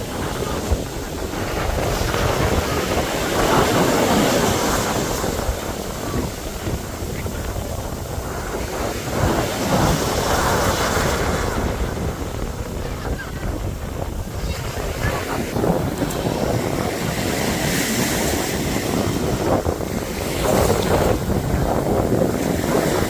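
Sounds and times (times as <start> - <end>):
sea waves breaking on beach: 0.0 - 23.0
wind buffeting microphone: 0.0 - 23.0.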